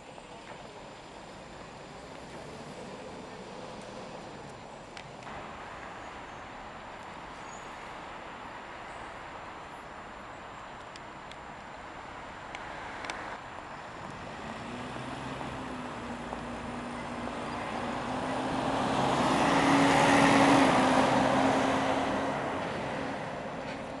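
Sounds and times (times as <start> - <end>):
diesel bus passing: 0.0 - 24.0.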